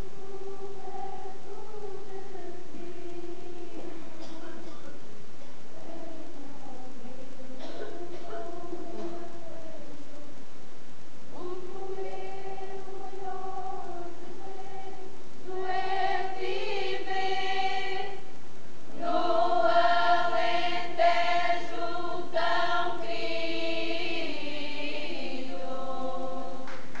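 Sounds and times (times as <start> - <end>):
unaccompanied choir singing: 0.0 - 10.3, 11.3 - 18.3, 18.9 - 27.0.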